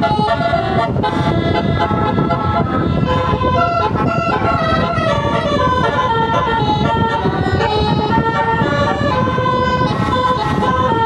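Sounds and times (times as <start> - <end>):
musical air horn melody: 0.0 - 11.0
steady low rumble: 0.0 - 11.0.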